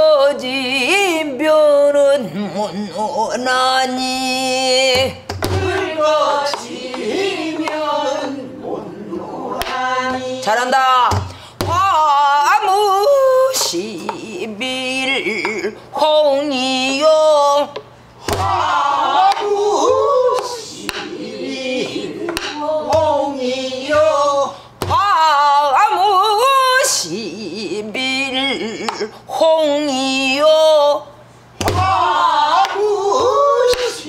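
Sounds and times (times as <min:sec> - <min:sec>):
woman singing with vibrato: 0:00.0 - 0:34.0.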